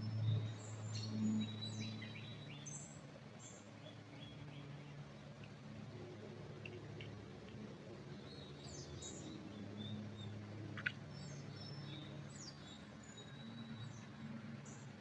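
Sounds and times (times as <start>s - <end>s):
songbirds chirping and trilling: 0.0s - 7.1s, 7.8s - 15.0s.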